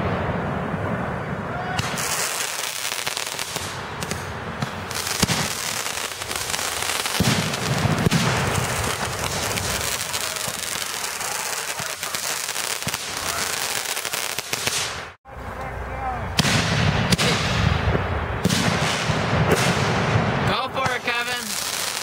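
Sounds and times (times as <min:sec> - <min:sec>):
fireworks bangs: 0:00.0 - 0:15.2, 0:16.2 - 0:22.0
fireworks pops and crackling: 0:01.7 - 0:15.2, 0:16.4 - 0:22.0.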